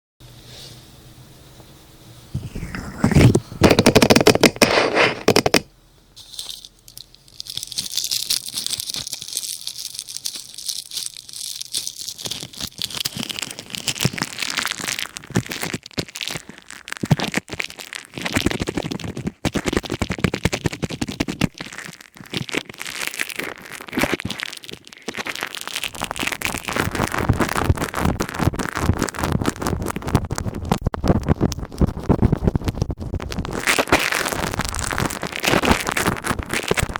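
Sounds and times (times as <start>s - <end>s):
plastic crinkling and crackling: 2.4s - 36.9s.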